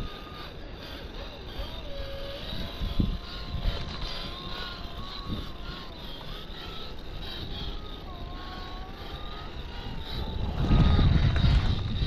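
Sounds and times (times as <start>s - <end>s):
electric motor and gearbox whining: 0.0s - 12.0s.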